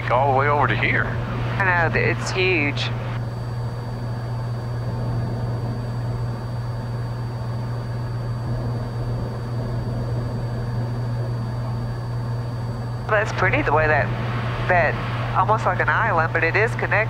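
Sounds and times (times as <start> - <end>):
airplane engine droning in cabin: 0.0 - 17.0.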